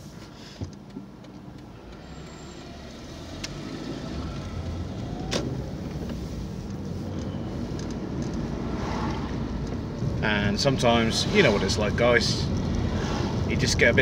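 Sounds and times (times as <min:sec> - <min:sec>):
road noise: 0:00.0 - 0:14.0
car engine: 0:00.8 - 0:14.0.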